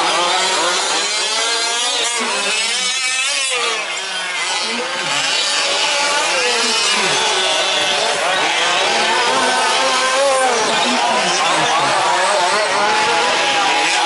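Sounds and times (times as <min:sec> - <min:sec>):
rc truck engines revving: 0:00.0 - 0:14.0.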